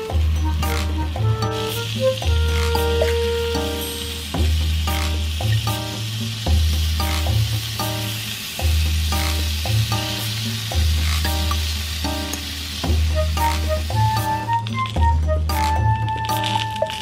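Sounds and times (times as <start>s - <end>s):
background music with plucked melody: 0.0s - 17.0s
sausages sizzling in a skillet: 0.0s - 17.0s.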